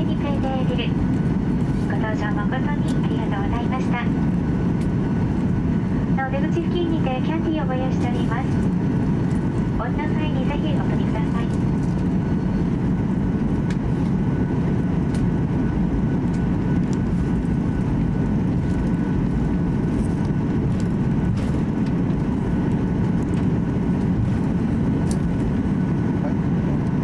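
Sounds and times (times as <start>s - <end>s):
faint steady whine: 0.0s - 27.0s
jet engine low rumble: 0.0s - 27.0s.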